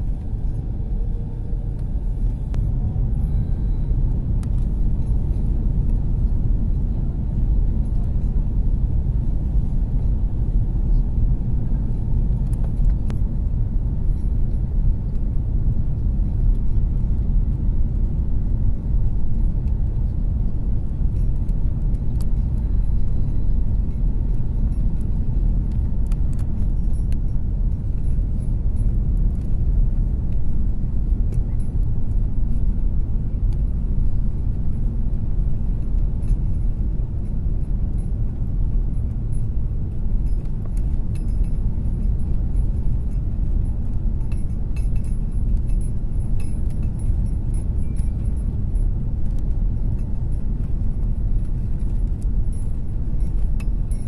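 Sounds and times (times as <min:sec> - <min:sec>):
airliner engines rumbling in cabin: 0:00.0 - 0:54.0.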